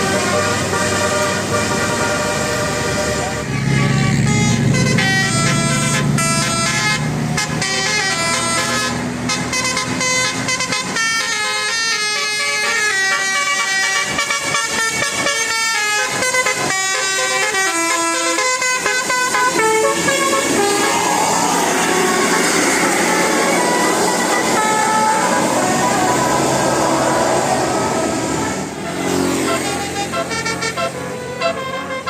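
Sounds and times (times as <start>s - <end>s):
multi-tone bus horn tune: 0.0s - 32.0s.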